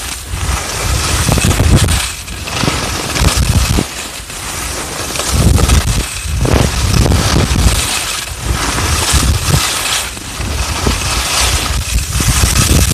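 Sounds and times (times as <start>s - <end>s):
wind buffeting microphone: 0.0s - 4.0s, 5.2s - 12.9s
skis scraping over snow: 0.0s - 12.9s.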